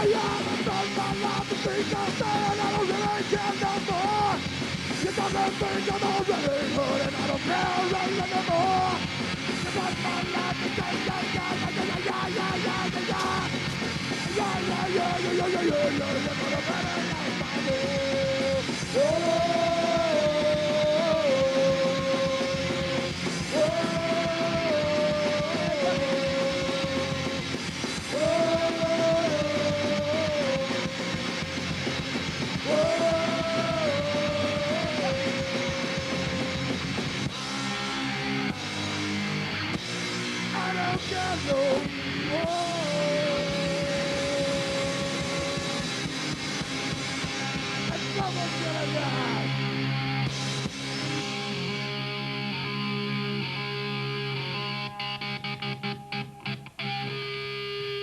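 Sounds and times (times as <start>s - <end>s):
punk rock band playing: 0.0s - 58.0s.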